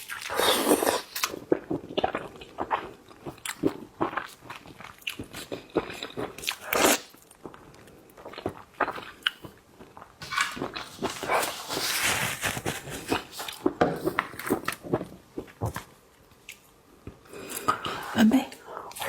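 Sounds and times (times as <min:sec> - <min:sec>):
shrimp being chewed: 0:00.0 - 0:17.9.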